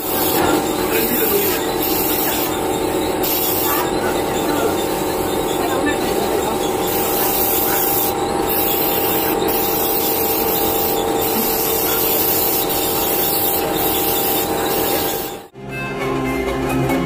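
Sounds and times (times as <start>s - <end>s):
paint spray gun hissing: 0.0s - 15.5s
steady machine hum: 0.0s - 15.6s.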